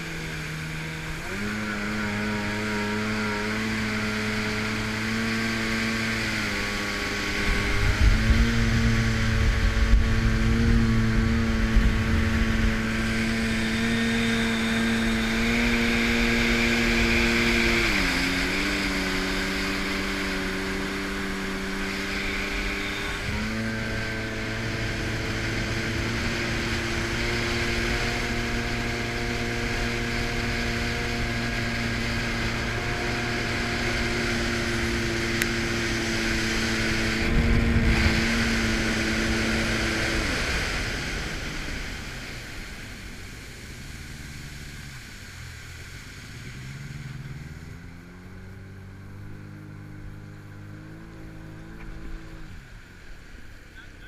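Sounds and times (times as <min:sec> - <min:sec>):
wind rumble on microphone: 0:00.0 - 0:53.6
watercraft engine running: 0:00.0 - 0:54.0.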